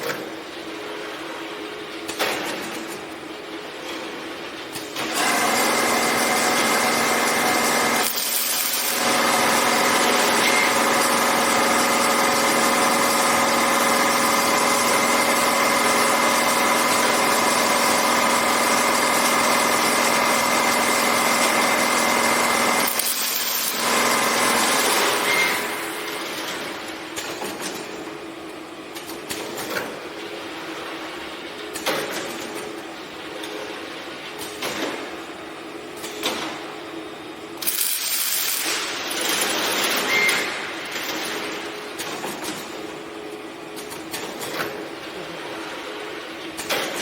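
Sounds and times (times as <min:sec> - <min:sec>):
welding machine with high whine: 0:00.1 - 0:47.0.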